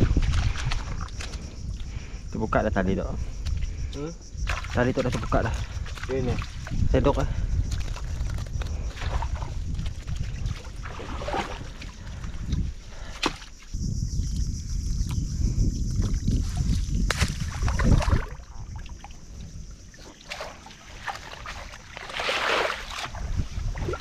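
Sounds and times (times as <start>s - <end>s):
muddy water sloshing and splashing: 0.0s - 2.2s, 3.4s - 14.3s, 15.8s - 24.0s
wind rumble on microphone: 0.0s - 20.1s, 22.7s - 24.0s.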